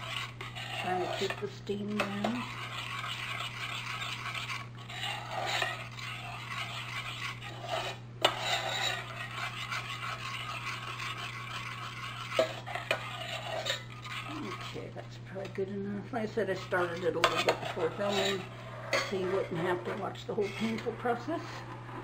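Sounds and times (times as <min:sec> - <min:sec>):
metal spoon scraping saucepan: 0:00.0 - 0:22.0.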